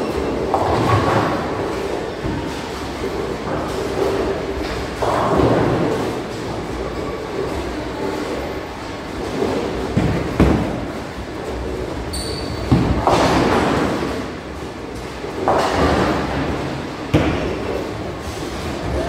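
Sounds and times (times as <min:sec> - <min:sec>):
bowling balls rolling: 0:00.0 - 0:19.0
bowling balls thudding: 0:00.0 - 0:19.0.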